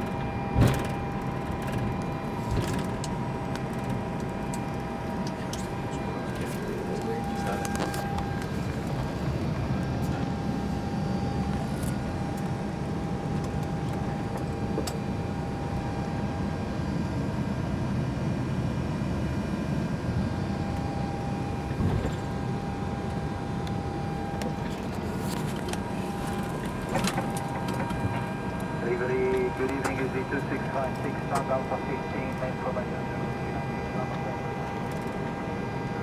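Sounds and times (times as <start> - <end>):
ventilation running: 0.0 - 16.3, 20.7 - 36.0
jet engines idling: 0.0 - 36.0.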